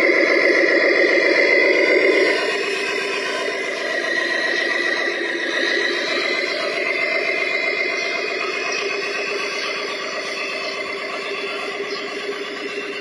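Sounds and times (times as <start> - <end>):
toy truck motor whirring: 0.0 - 13.0.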